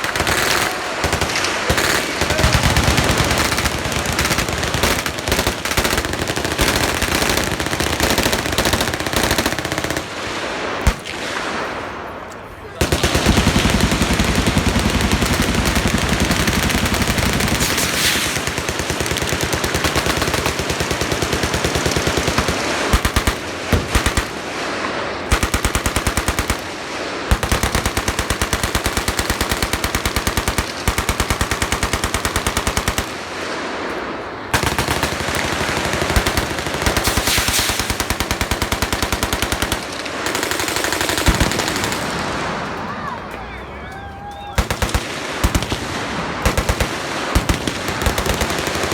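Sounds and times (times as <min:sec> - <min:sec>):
machine guns firing full-auto: 0:00.0 - 0:12.0, 0:12.8 - 0:43.1, 0:44.6 - 0:48.9.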